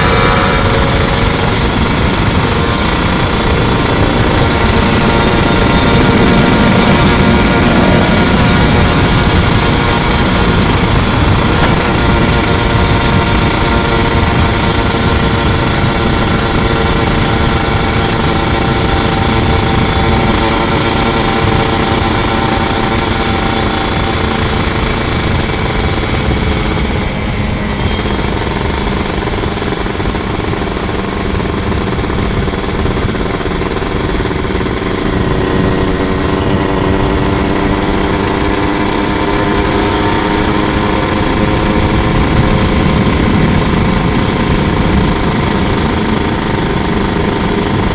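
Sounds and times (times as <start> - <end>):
two-stroke motorcycle engine: 0.0 - 47.9.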